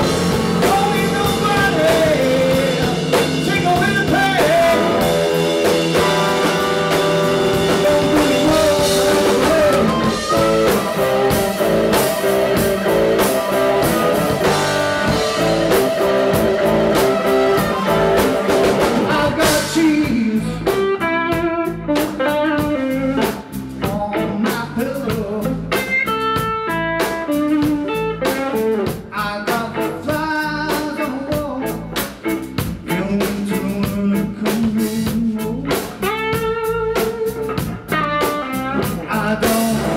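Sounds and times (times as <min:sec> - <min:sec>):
picked guitar notes: 0:00.0 - 0:24.5, 0:25.3 - 0:30.4, 0:35.0 - 0:39.9
live blues-rock band: 0:00.0 - 0:39.9.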